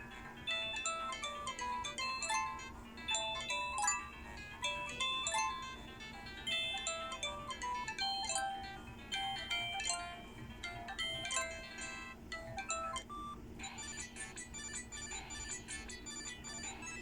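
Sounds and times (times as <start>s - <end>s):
polyphonic phone ringtone: 0.0s - 17.0s.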